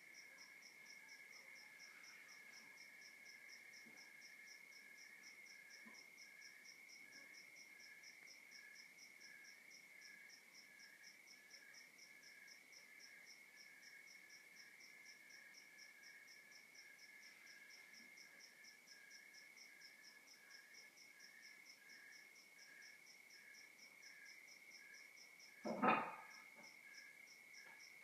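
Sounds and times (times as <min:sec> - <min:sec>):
crickets chirping at night: 0:00.0 - 0:28.0.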